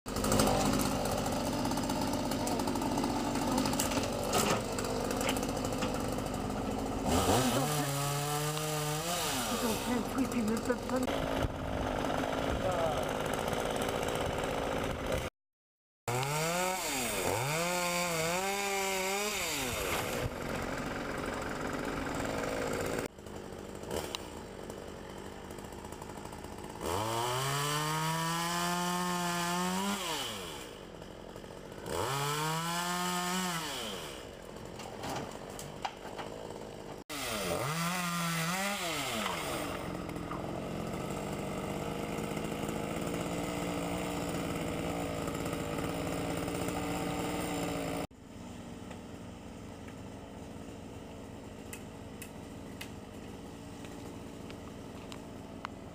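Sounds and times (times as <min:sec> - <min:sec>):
chainsaw engine revving: 0:00.1 - 0:15.3, 0:16.1 - 0:48.2.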